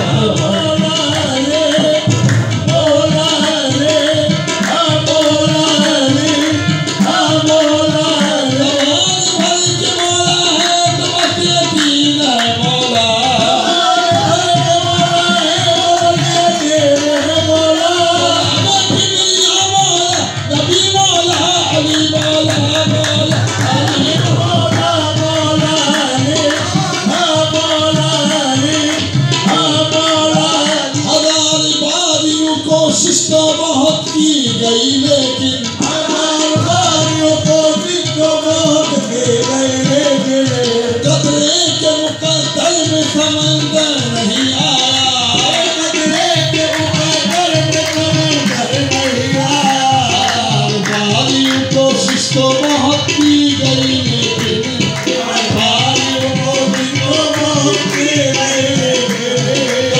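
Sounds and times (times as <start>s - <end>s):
tabla drumming: 0.0s - 59.9s.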